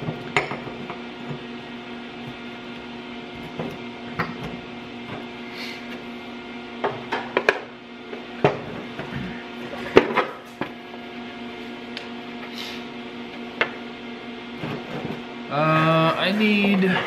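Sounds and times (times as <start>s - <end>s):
welder electrical hum: 0.0s - 17.0s.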